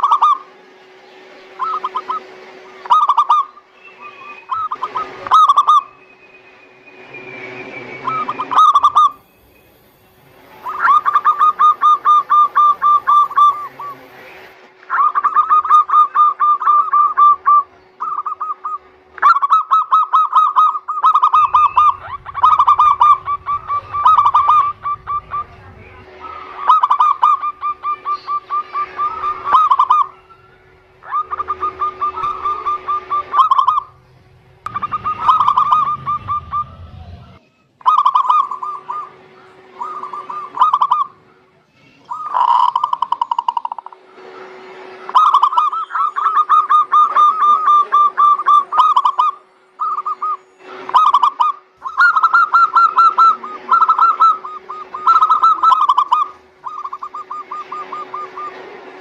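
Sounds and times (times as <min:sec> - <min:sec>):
doves rolling coos: 0:00.0 - 0:59.0.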